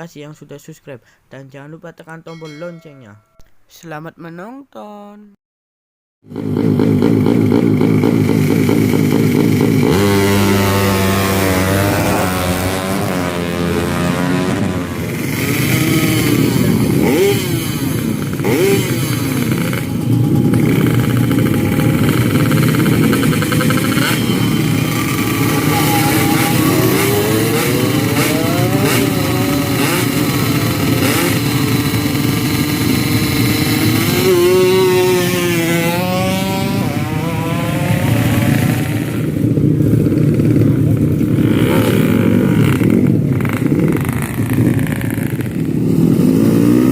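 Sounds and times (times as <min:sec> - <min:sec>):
motorcycle engines revving: 0:06.3 - 0:46.9.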